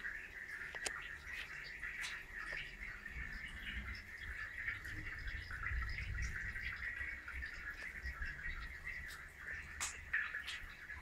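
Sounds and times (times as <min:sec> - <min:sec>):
water trickling across floor: 0:00.0 - 0:11.0.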